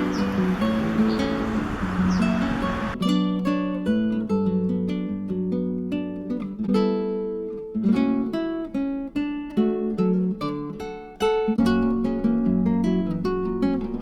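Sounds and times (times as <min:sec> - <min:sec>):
acoustic guitar plucked and strummed: 0:00.0 - 0:14.0.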